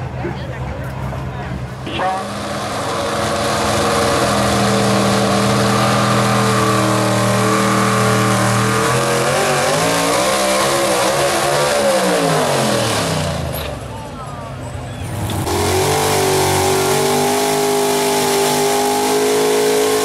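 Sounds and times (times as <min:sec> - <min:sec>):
truck engine revving high: 0:01.6 - 0:14.0, 0:14.6 - 0:20.0.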